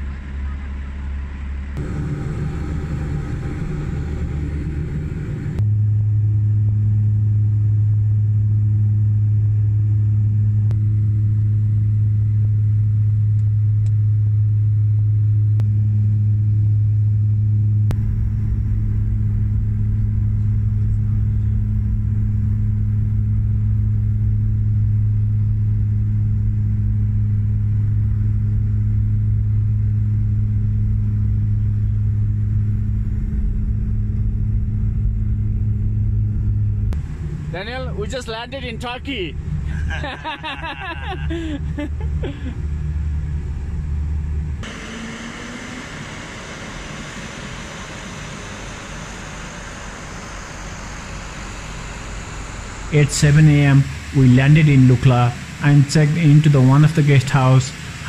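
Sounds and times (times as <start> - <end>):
turboprop plane cabin drone: 0.0 - 58.0.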